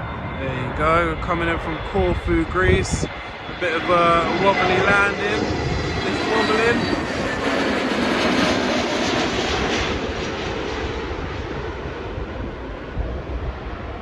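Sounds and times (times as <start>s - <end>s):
jet airliner passing: 0.0s - 14.0s.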